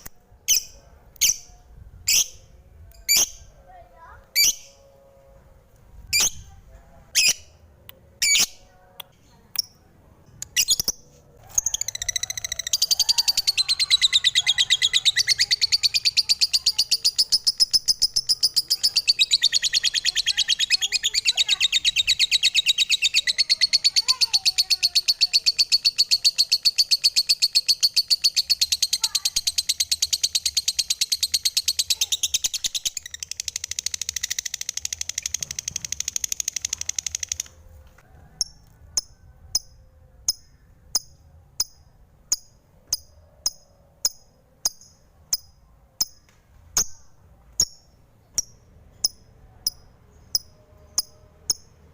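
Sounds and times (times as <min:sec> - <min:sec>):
lovebird chirping and chattering: 0:03.0 - 0:03.5, 0:04.3 - 0:04.8, 0:06.1 - 0:06.5, 0:07.1 - 0:07.6, 0:08.2 - 0:08.7, 0:10.4 - 0:37.6, 0:38.4 - 0:46.2, 0:46.8 - 0:51.9.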